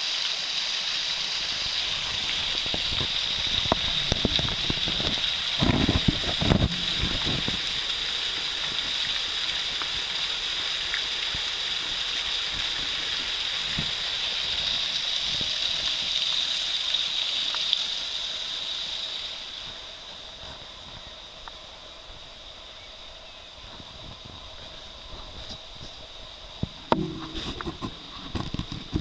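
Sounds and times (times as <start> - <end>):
small waterfall splashing on stones: 0.0 - 22.6, 23.6 - 29.0.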